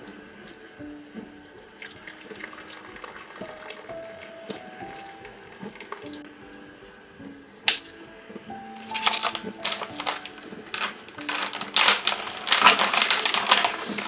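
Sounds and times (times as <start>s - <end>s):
water running with splashing hiss: 0.0s - 6.3s, 8.8s - 14.0s
soft background music: 0.0s - 14.0s.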